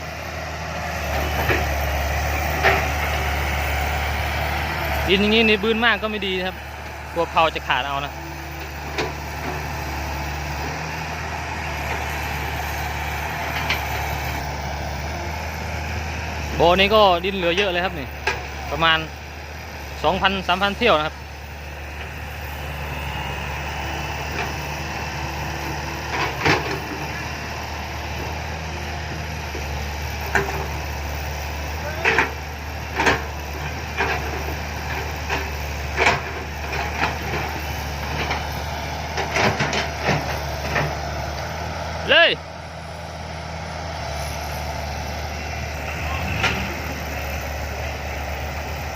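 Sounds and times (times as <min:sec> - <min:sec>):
diesel truck engine droning: 0:00.0 - 0:48.9.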